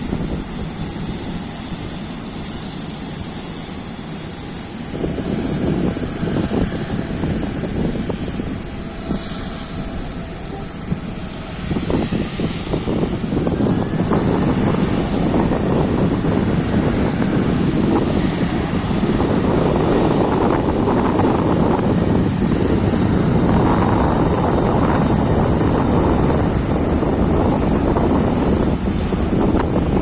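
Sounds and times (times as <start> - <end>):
aircraft engines roaring: 0.0 - 30.0
wind rumbling on microphone: 0.0 - 30.0.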